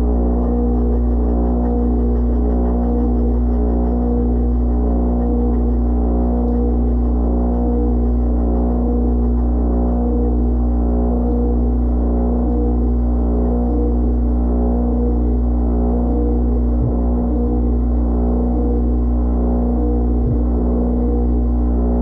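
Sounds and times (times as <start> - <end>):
dishwasher motor and pump hum: 0.0 - 22.0
faint regular pulse: 0.0 - 22.0.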